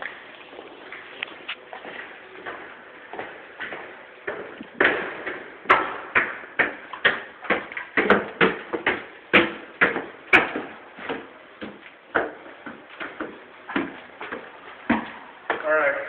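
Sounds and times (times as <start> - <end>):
footsteps walking: 0.0 - 15.7.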